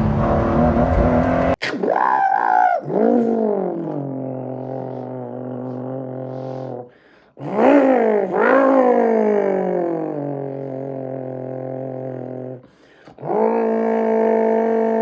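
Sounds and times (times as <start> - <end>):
man imitating engine revs: 0.0 - 15.0.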